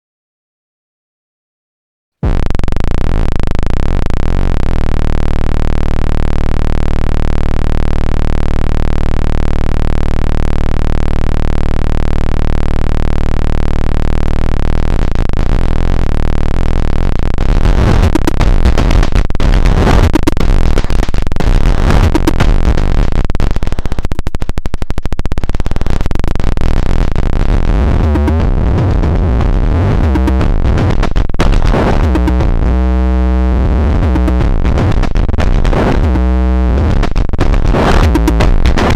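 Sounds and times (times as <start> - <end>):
buzzing electronic drone: 2.2 - 38.9
glitchy stuttering electronic noise: 2.2 - 38.9.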